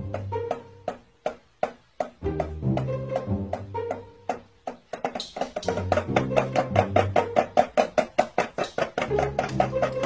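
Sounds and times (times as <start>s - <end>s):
quick clicking beat: 0.0s - 10.0s.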